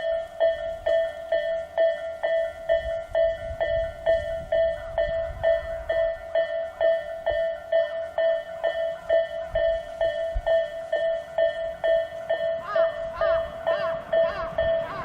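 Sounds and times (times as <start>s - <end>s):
level crossing electronic bell: 0.0s - 15.0s.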